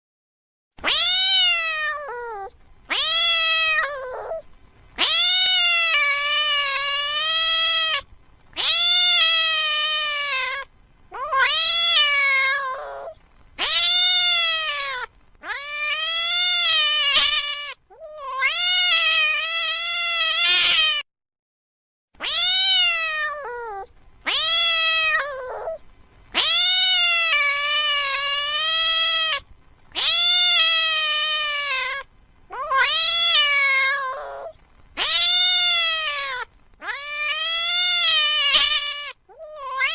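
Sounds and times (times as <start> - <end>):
cat meowing loudly: 0.8 - 4.4, 5.0 - 21.0, 22.2 - 39.9.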